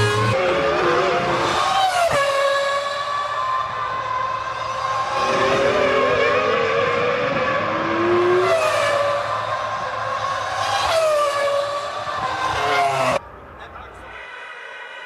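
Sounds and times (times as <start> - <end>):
racing engines at high revs: 0.0 - 13.2.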